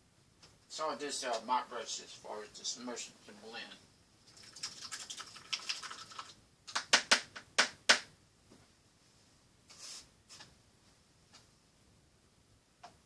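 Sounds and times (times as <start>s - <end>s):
soft hiss: 0.0s - 6.9s, 8.1s - 13.0s.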